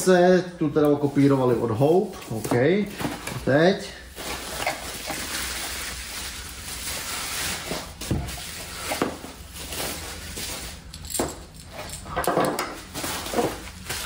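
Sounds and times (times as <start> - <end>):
packaging rustling: 1.0 - 11.0, 12.7 - 14.0.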